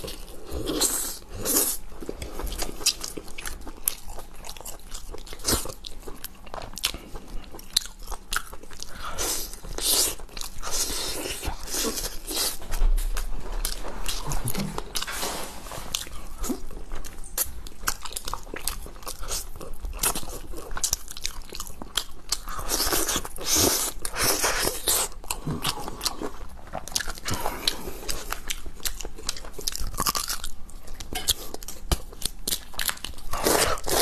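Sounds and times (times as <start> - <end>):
person chewing crunchy food: 0.0 - 34.0.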